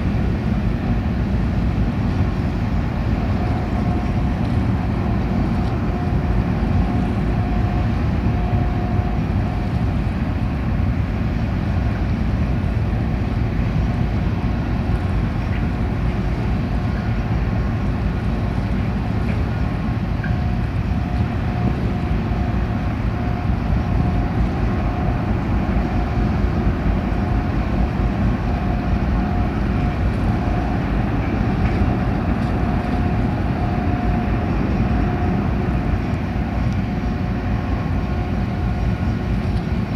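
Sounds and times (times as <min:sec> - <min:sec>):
ship engines rumbling: 0:00.0 - 0:39.9.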